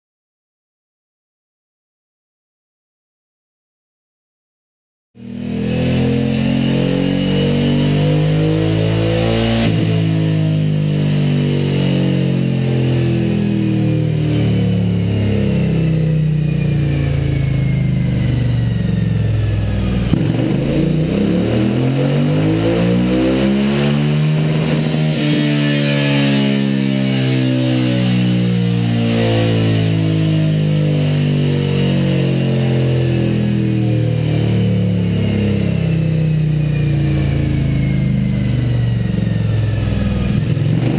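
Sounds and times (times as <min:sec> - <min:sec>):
motorcycle engine revving: 0:05.2 - 0:40.9.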